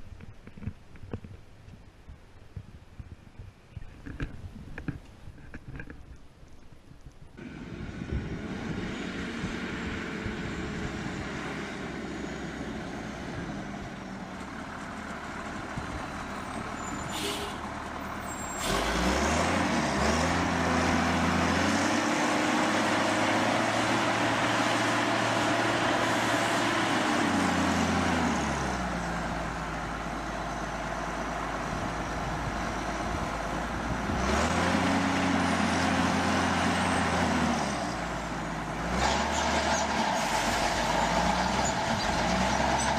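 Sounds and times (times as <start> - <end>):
heavy machine engine revving: 7.4 - 42.9.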